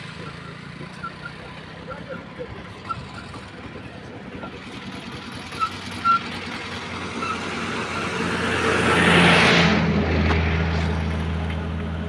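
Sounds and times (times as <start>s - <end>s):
low engine hum: 0.0s - 12.0s
vehicle passing on road: 0.0s - 12.0s.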